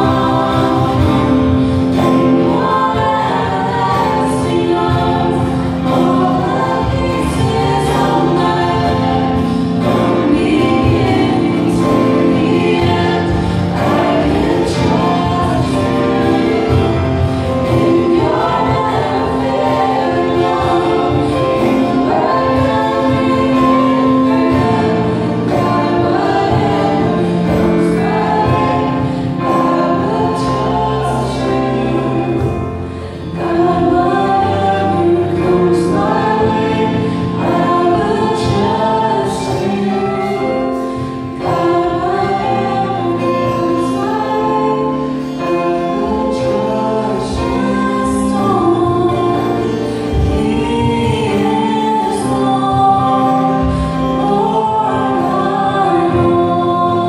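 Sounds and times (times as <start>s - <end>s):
acoustic guitar: 0.0s - 57.0s
people singing worship song: 0.0s - 57.0s.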